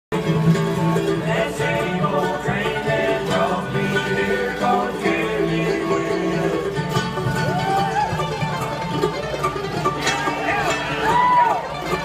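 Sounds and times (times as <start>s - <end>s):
acoustic guitar: 0.1s - 12.0s
bluegrass string band playing: 0.1s - 12.0s
mandolins: 0.1s - 12.0s.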